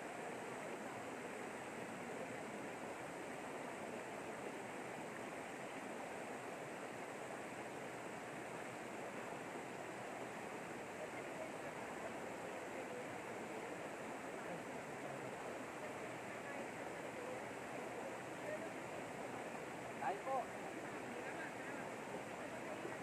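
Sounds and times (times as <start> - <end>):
river rushing over stones: 0.0 - 23.0.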